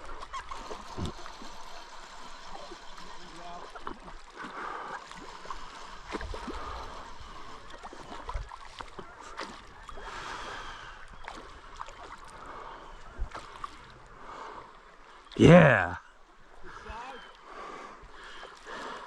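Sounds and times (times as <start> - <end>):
creek water gurgling: 0.0 - 15.7.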